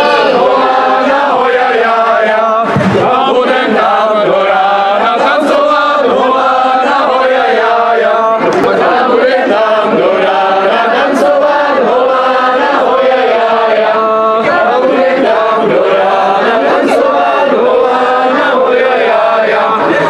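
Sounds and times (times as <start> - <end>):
crowd singing together: 0.0 - 20.0.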